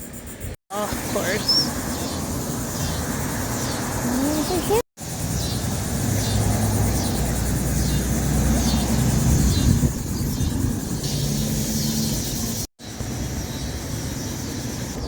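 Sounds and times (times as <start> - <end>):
bird chirping: 0.1 - 15.0.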